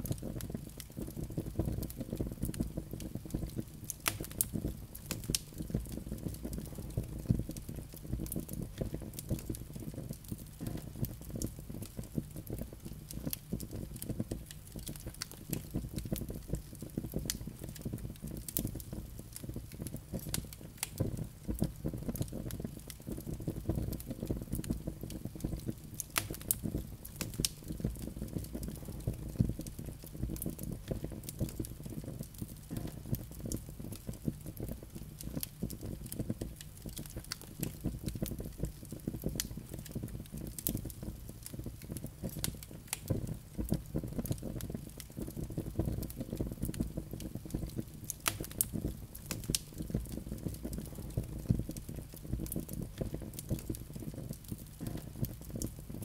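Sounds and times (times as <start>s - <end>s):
fire flames burning: 0.0s - 56.0s
logs crackling and popping: 0.0s - 56.0s.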